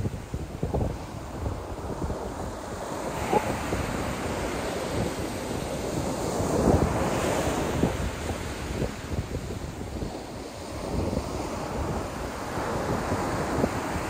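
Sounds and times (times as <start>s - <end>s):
small waves breaking on sand: 0.0s - 14.0s
wind buffeting microphone: 0.0s - 14.0s.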